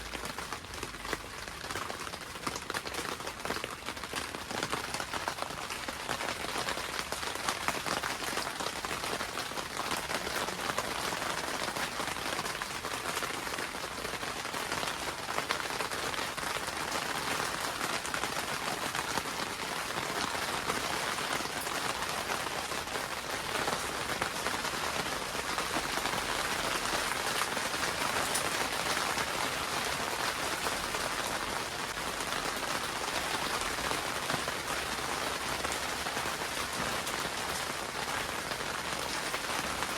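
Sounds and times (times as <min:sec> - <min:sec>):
rain pattering on greenhouse roof: 0:00.0 - 0:39.9.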